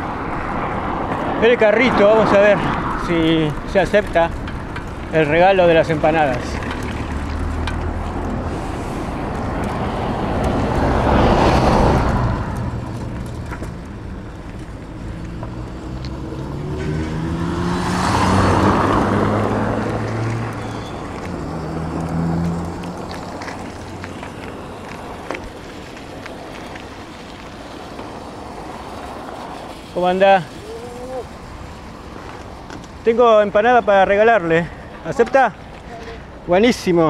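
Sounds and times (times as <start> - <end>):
engine hum: 0.0 - 36.4
vehicles passing by: 0.0 - 37.0.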